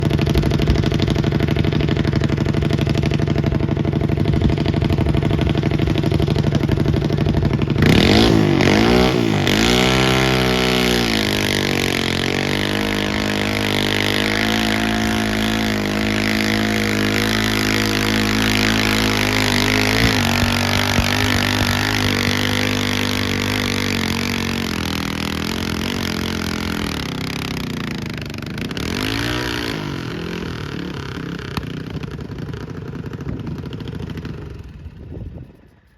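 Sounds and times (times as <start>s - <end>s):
tractor engine revving: 0.0s - 35.3s.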